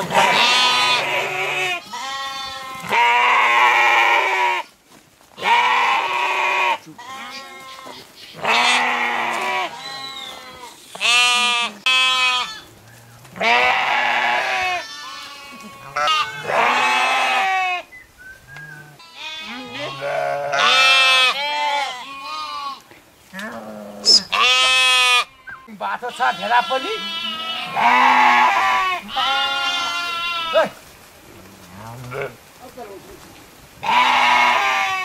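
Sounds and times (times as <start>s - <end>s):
sheep bleating: 0.0s - 4.7s, 5.4s - 12.7s, 13.3s - 17.9s, 18.9s - 22.8s, 23.4s - 30.8s, 31.7s - 32.4s, 33.8s - 35.0s.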